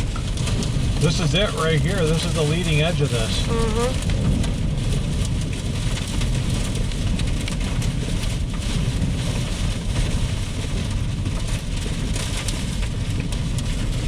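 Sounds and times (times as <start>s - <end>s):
rain hiss: 0.0s - 13.9s
raindrop ticks on vehicle: 0.0s - 14.0s
storm wind rumble: 0.0s - 14.0s.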